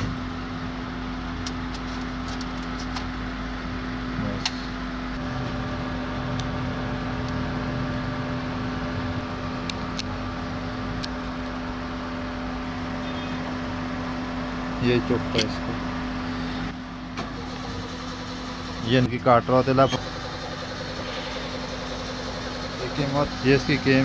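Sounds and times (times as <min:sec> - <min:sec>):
mechanical hum with steady tone: 0:00.0 - 0:24.0.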